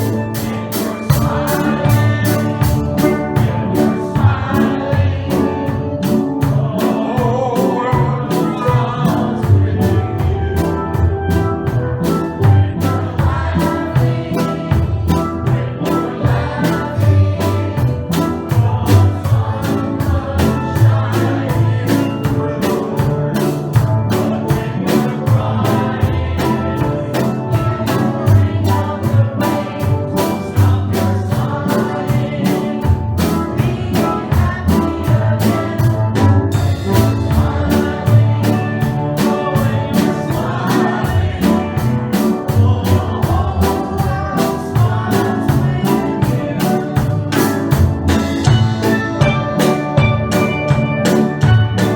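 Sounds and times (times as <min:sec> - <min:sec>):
low bass line: 0:00.0 - 0:51.9
steel band playing: 0:00.0 - 0:51.9.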